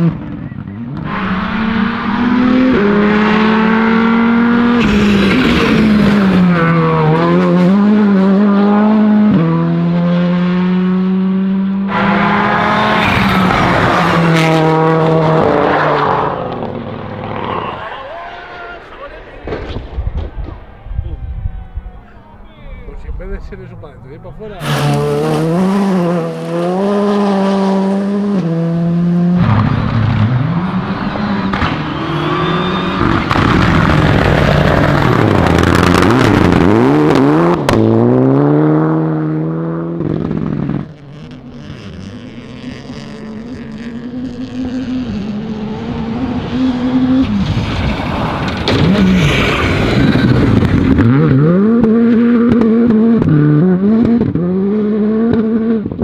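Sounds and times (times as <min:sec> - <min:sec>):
rally car engines revving: 0:00.0 - 0:18.2, 0:24.4 - 0:56.0.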